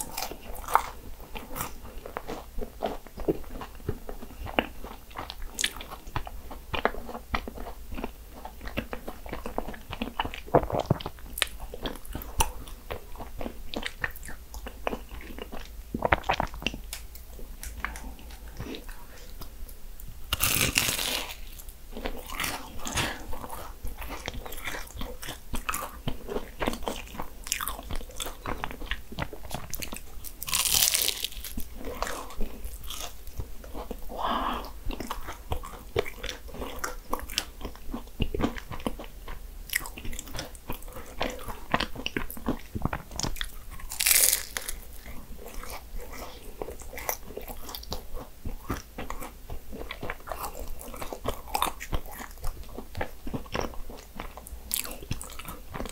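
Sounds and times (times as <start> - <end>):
pastry crunching while chewing: 0.0 - 19.6, 20.3 - 55.9.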